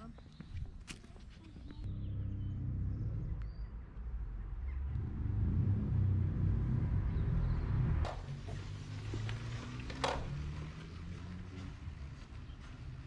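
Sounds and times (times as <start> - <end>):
vehicle engines rumbling on road: 1.4 - 13.0.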